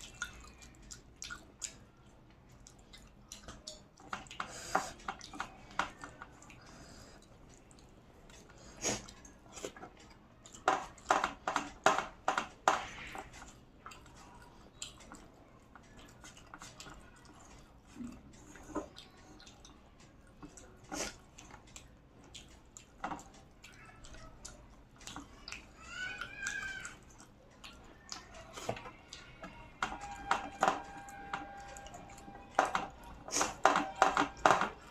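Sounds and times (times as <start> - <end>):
person chewing and eating: 0.0 - 34.9.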